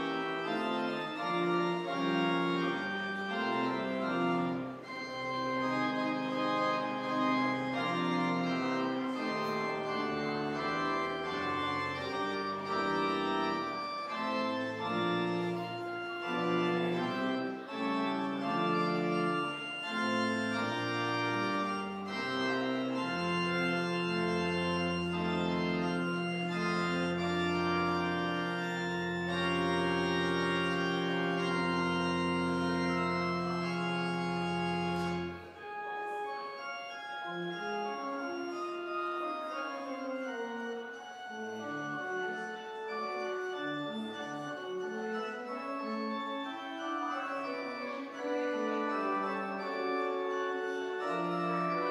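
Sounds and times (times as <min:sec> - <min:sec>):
organ chords: 0:00.0 - 0:51.9.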